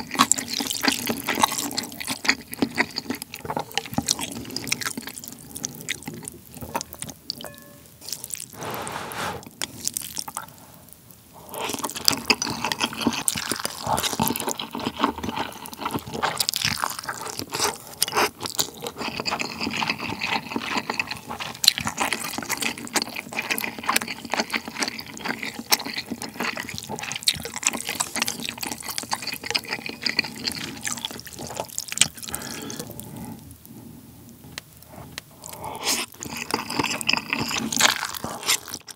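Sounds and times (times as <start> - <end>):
person slurping and chewing noodles: 0.0 - 6.3, 8.6 - 9.5, 11.5 - 33.0, 35.4 - 38.9.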